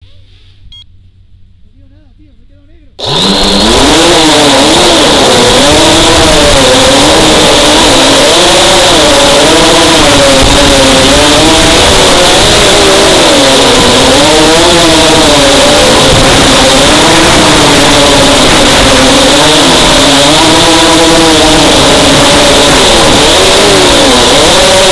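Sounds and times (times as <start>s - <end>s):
drone motors buzzing: 3.0s - 24.9s.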